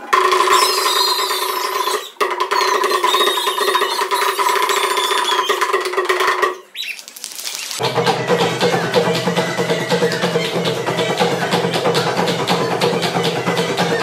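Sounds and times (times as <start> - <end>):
shrill whistles: 0.2 - 6.0, 6.6 - 7.1, 8.2 - 14.0.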